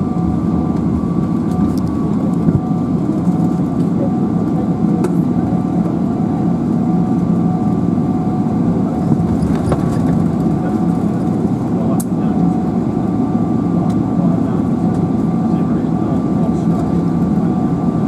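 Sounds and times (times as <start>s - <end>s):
jet engines rumbling: 0.0s - 18.0s
steady whining tones: 0.0s - 18.0s.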